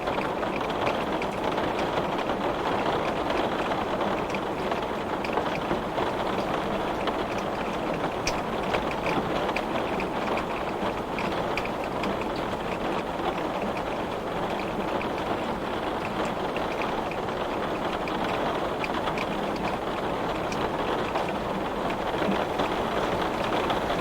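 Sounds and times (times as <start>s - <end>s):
raindrops ticking on glass: 0.1s - 24.0s.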